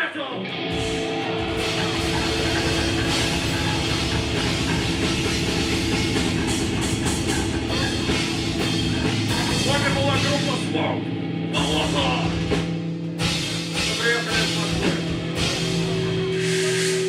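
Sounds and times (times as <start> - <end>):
grindcore band playing live: 0.0 - 17.0.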